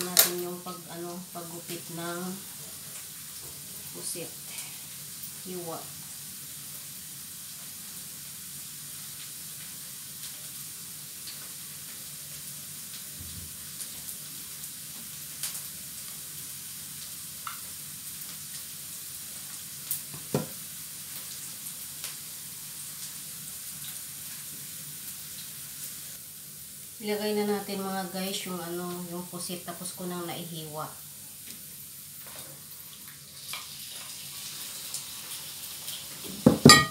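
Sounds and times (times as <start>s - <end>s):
onion and garlic sizzling in oil: 0.0s - 36.9s.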